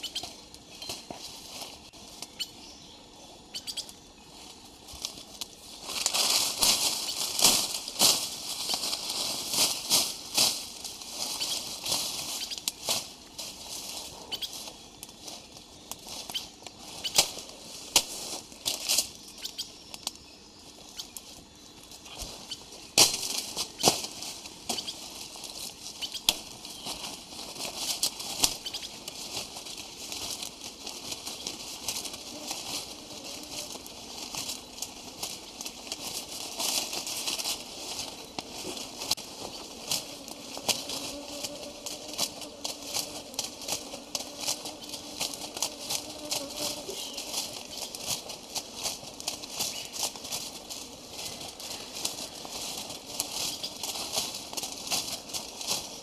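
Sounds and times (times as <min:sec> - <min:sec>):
crackles taps and rustling: 0:00.1 - 0:02.4, 0:03.8 - 0:20.2, 0:20.8 - 0:56.0.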